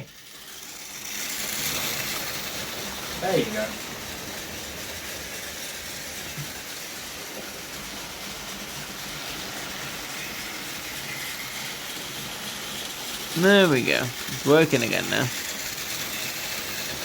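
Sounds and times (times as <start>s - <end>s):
model train motors whirring: 0.0s - 17.0s.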